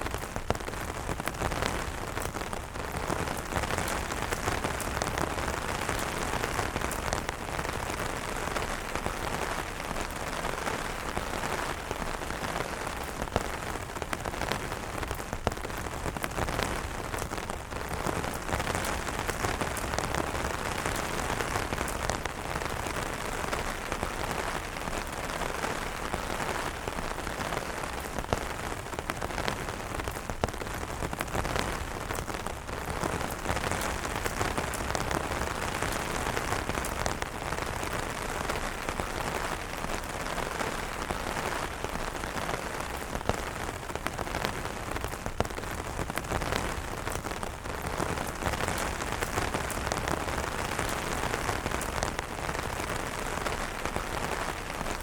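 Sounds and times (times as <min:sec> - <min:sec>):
rain on an umbrella: 0:00.0 - 0:55.0.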